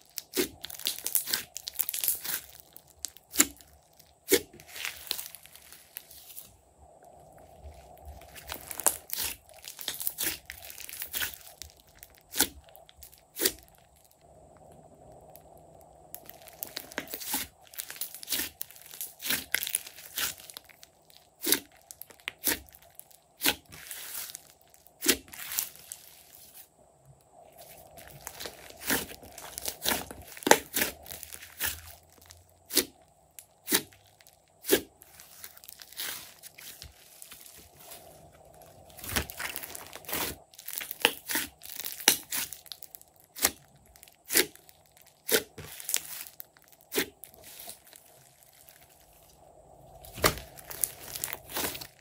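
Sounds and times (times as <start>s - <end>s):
slime crackling and popping: 0.0s - 6.5s, 7.3s - 26.7s, 27.6s - 52.0s.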